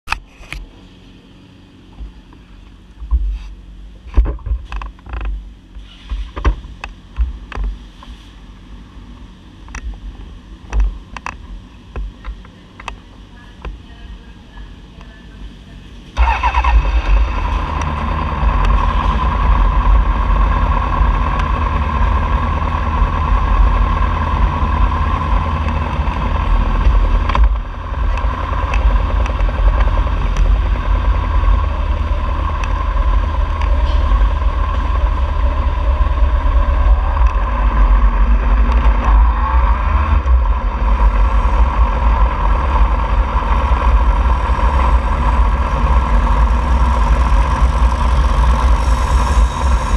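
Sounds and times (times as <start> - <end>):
motorcycle engine idling: 9.7 - 49.9.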